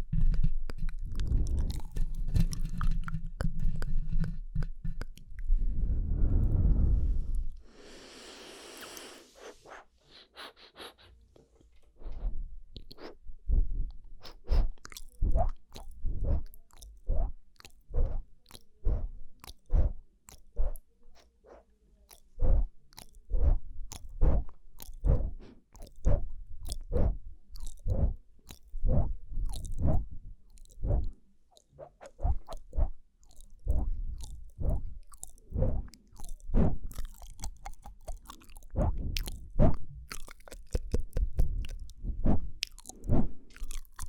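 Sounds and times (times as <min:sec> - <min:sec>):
wet lip and tongue clicks: 0:00.1 - 0:05.5, 0:12.1 - 0:13.2, 0:13.9 - 0:44.0.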